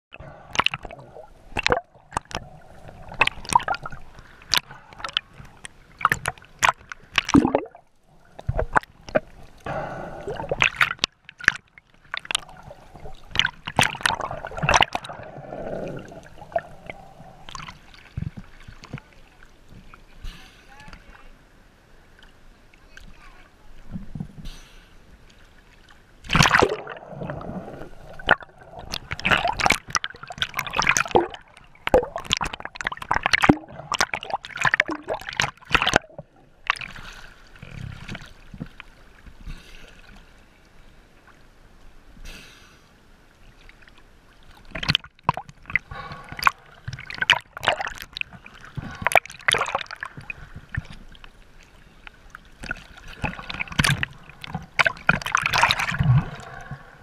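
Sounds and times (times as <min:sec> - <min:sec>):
water sloshing and splashing: 0:00.1 - 0:21.4, 0:25.2 - 0:41.5, 0:43.3 - 0:57.0.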